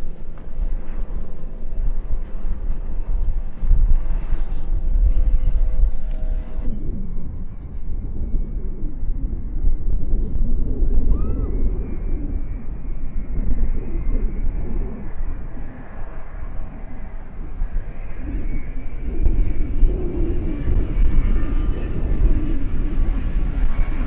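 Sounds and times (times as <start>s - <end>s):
distant jet engines: 0.0s - 24.0s
faint steady engine whine: 0.0s - 24.0s
wind on microphone: 0.0s - 24.0s.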